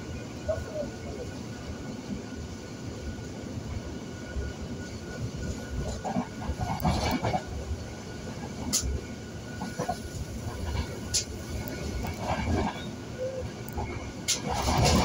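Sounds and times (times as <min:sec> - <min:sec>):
train rumbling inside carriage: 0:00.0 - 0:15.0.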